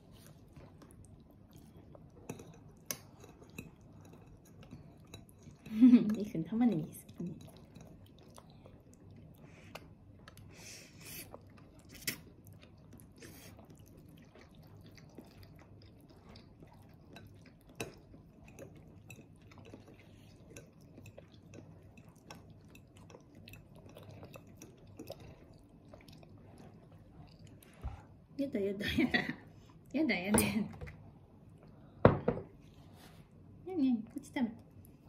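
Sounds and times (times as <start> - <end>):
low room hum: 0.0 - 35.0.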